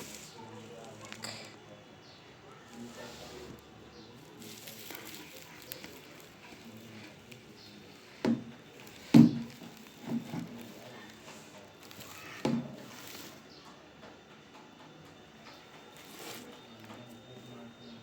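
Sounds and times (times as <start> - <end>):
faint room noise: 0.0 - 18.0.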